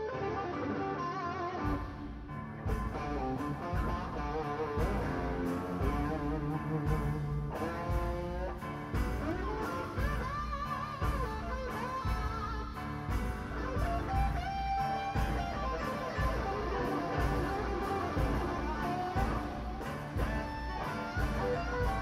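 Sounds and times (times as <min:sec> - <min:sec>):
electric guitar lead lines: 0:00.0 - 0:22.0.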